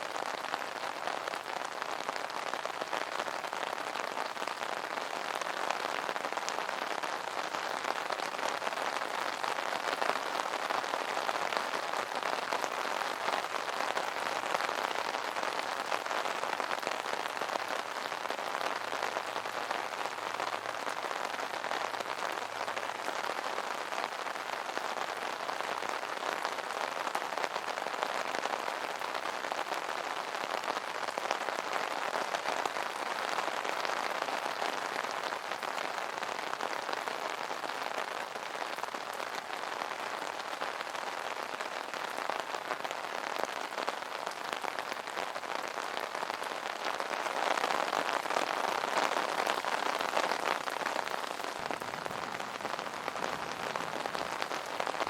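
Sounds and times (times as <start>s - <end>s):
rain pattering on umbrella: 0.0s - 55.0s.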